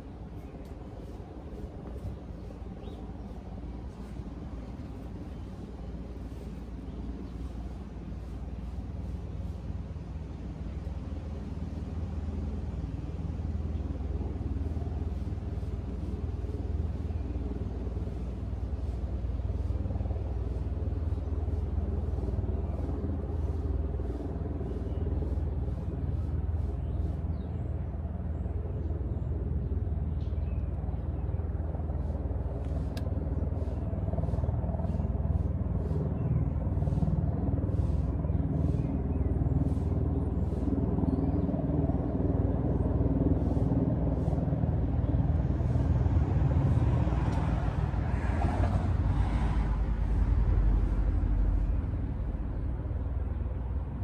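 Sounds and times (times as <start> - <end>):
running vehicle low rumble: 0.0 - 54.0.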